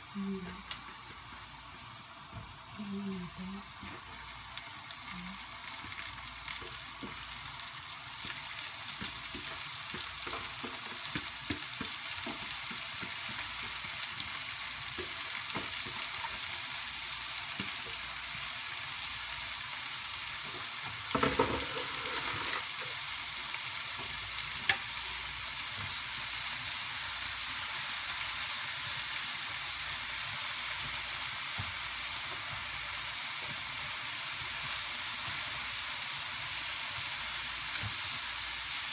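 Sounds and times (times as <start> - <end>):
greens sizzling in a frying pan: 0.0 - 38.9.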